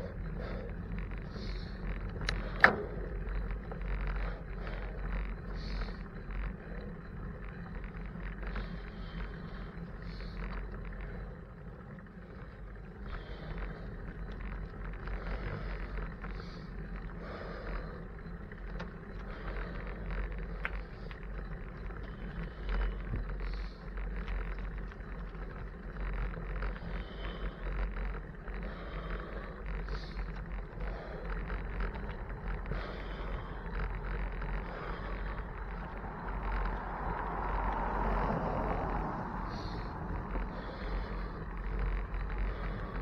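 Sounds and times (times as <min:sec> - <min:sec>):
small rattles: 0:00.0 - 0:43.0
tyres rumbling on pavement: 0:00.0 - 0:43.0.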